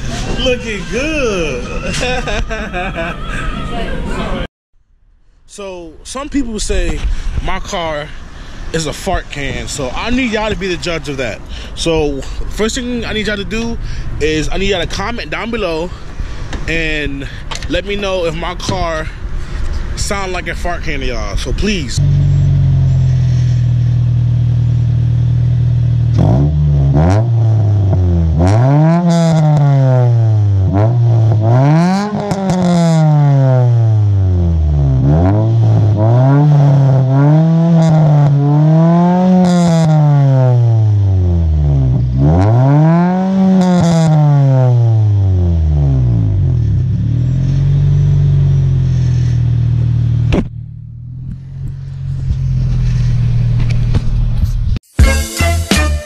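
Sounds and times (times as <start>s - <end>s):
car exhaust idling and revving: 6.1s - 54.8s.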